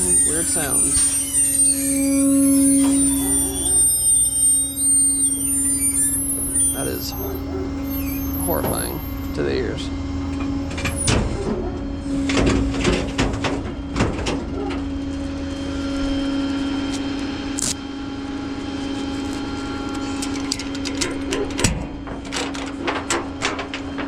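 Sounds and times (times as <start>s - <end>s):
truck bed creaks and squeaks: 0.0s - 9.4s, 10.2s - 17.8s, 18.8s - 24.0s
hydraulic pump hum: 0.0s - 24.0s.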